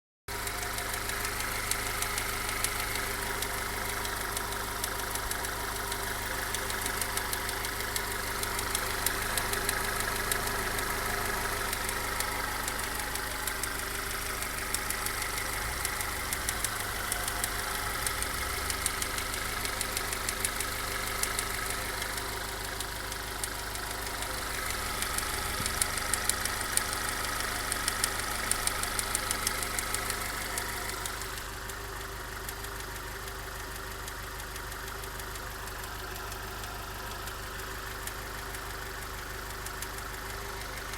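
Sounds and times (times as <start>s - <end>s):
ticking knock from engine: 0.3s - 37.2s
car engine idling: 0.3s - 40.9s.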